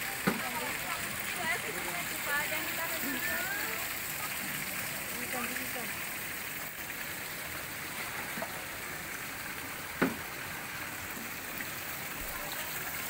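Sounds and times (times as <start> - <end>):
water splashing into pond: 0.0 - 13.0.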